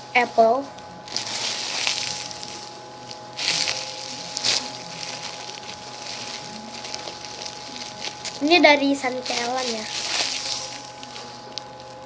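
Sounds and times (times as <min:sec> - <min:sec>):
foam toy rustling and scraping: 0:01.1 - 0:12.0.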